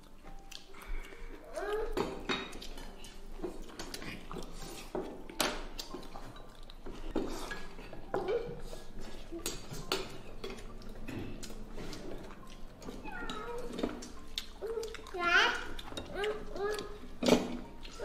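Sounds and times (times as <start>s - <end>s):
chopsticks clinking on porcelain bowls: 0.3s - 18.0s.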